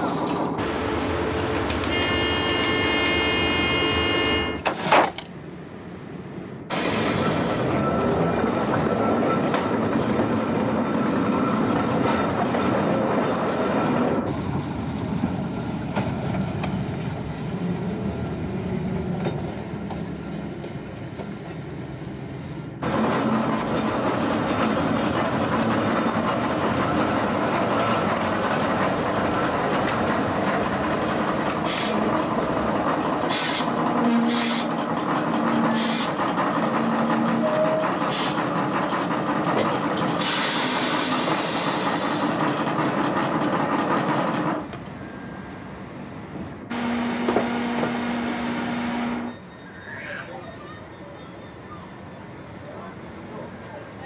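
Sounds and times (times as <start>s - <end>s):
tram rumbling on track: 0.0s - 54.0s.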